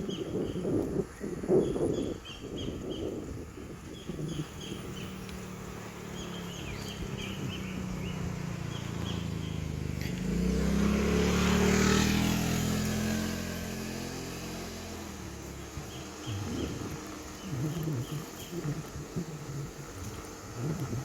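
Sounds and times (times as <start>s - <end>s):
vehicle passing by: 3.9s - 21.0s.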